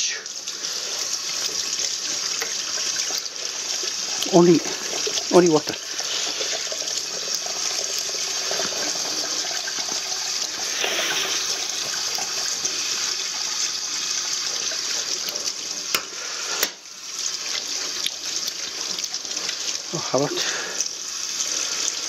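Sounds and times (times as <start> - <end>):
tap water splashing into sink: 1.3 - 19.9.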